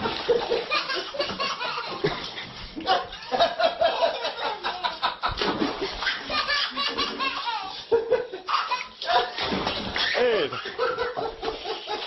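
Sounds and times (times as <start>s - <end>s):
people laughing: 0.1s - 12.0s.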